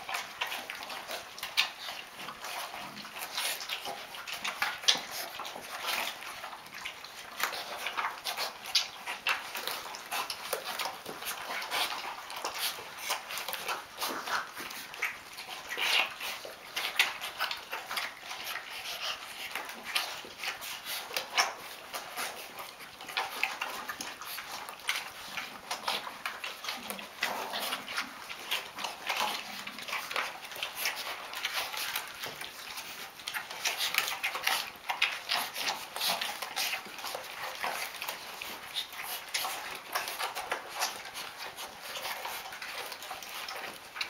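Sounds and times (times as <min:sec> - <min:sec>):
puppies lapping and chewing: 0:00.0 - 0:44.0.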